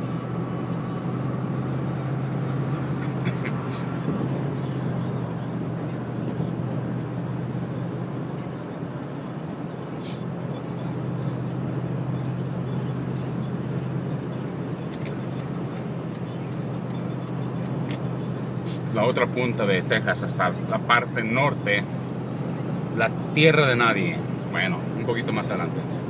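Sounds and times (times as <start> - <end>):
car engine hum from inside: 0.0 - 26.0.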